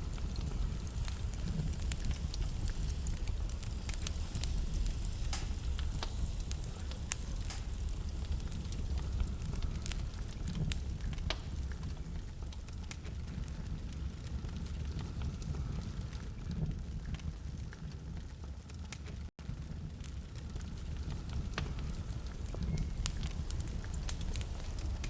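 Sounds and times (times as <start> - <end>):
fire rumbling in fireplace: 0.0 - 25.0
logs crackling and popping: 0.0 - 25.0.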